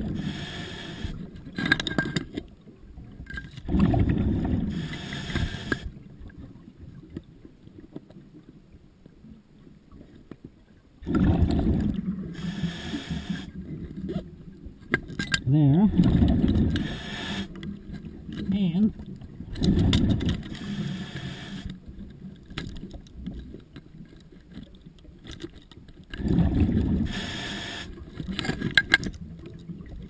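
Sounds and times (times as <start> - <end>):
underwater bubbles: 0.0 - 30.0.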